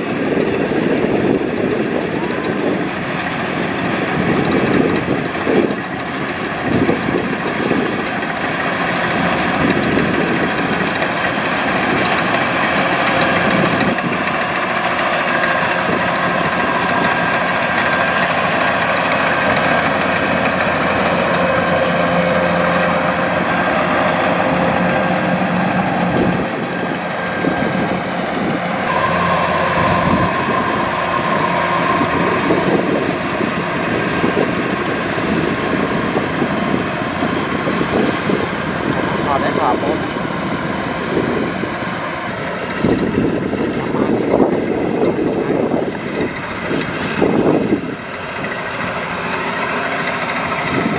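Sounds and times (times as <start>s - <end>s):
combine harvester droning: 0.0s - 50.9s
higher machine whine: 0.0s - 50.9s.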